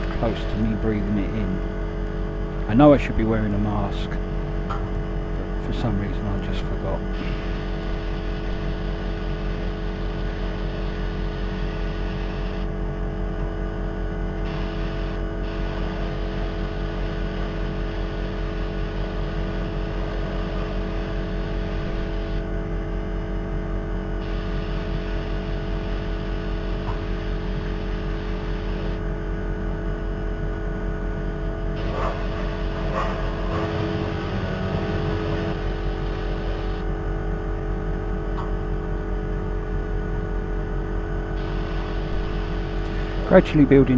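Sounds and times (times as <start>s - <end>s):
extractor fans humming: 0.0s - 43.9s.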